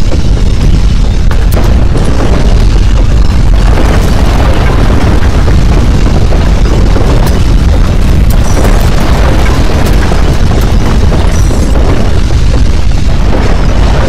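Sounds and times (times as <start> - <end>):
earthquake rumble: 0.0 - 14.0.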